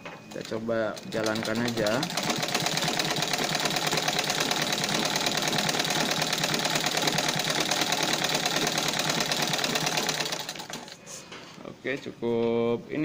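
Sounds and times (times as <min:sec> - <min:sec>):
sewing machine stitching: 0:00.3 - 0:11.0.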